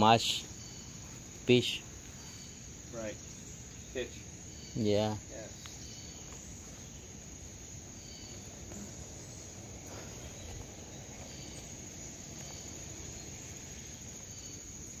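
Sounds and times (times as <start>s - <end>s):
insects trilling: 0.0s - 15.0s
low outdoor rumble: 0.0s - 15.0s.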